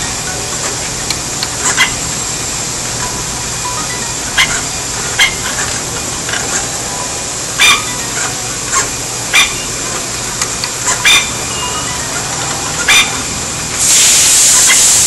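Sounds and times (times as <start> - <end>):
machine hissing with high whine: 0.0 - 15.0.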